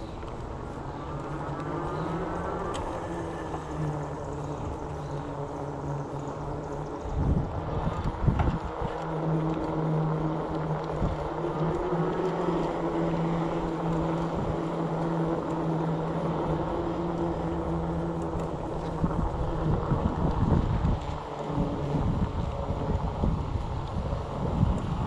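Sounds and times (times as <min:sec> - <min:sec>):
electric bike motor humming: 0:00.0 - 0:25.0
wind buffeting microphone: 0:00.0 - 0:25.0.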